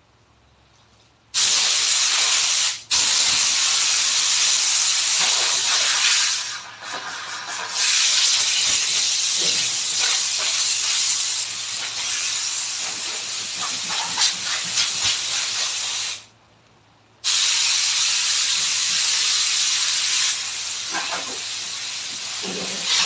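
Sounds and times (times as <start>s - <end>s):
compressed air hissing from nozzle: 1.3s - 16.3s, 17.2s - 23.0s.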